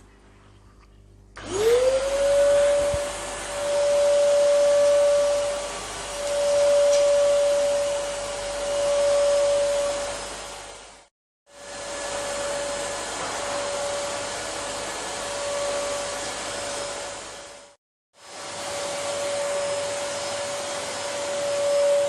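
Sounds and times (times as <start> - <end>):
vacuum cleaner running: 1.3 - 22.0.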